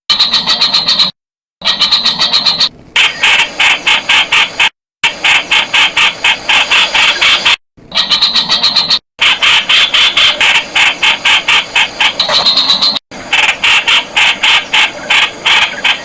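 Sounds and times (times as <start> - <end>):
bird calling sharp notes: 0.1 - 16.0.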